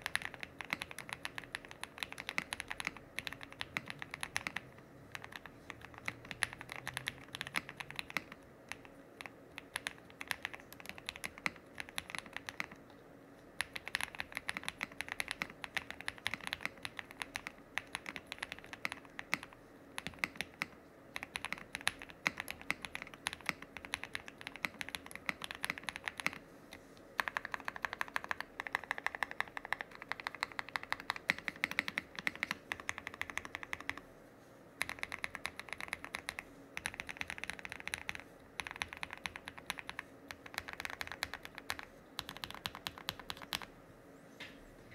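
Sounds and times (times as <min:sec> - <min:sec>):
mechanical keyboard typing: 0:00.0 - 0:12.8, 0:13.6 - 0:26.4, 0:27.2 - 0:34.1, 0:34.8 - 0:43.7.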